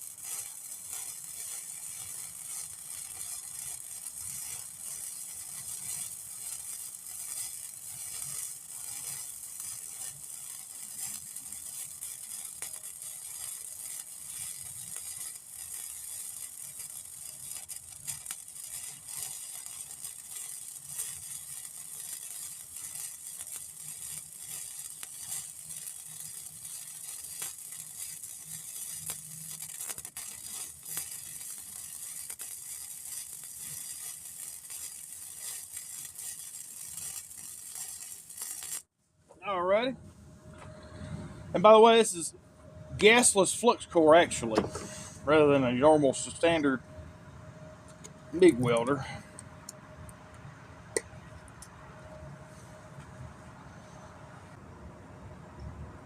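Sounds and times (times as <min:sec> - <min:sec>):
welding arc crackling: 0:00.0 - 0:38.9, 0:42.9 - 0:46.8, 0:47.9 - 0:51.7.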